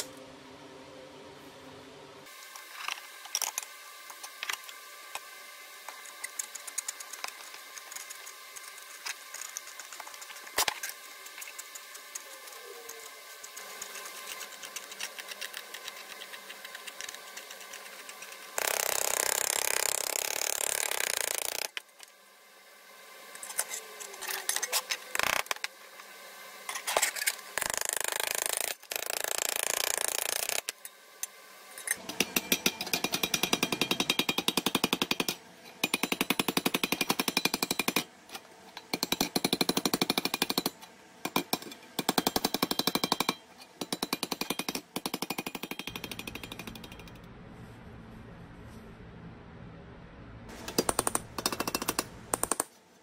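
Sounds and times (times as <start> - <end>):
metal working noise: 2.2 - 22.1, 23.2 - 52.8.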